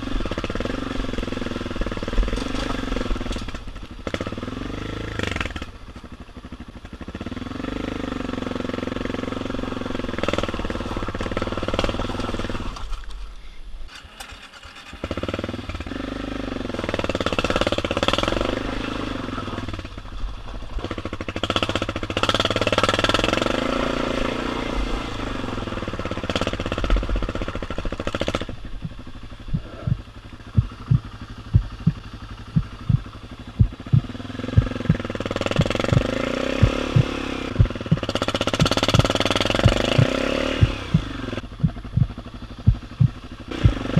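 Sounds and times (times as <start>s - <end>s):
motorcycle engine revving: 0.0s - 13.0s, 13.9s - 43.9s.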